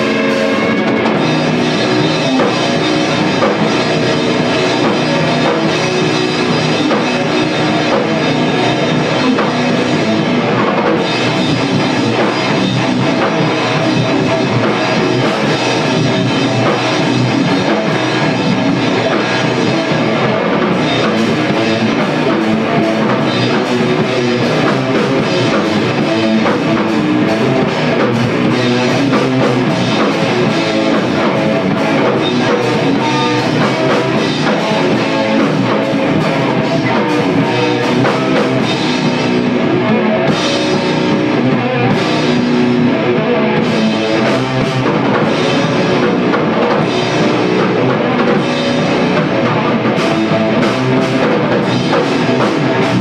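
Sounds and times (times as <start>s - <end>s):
bass guitar: 0.0s - 53.0s
drum kit with cymbal hits: 0.0s - 53.0s
electric guitar: 0.0s - 53.0s.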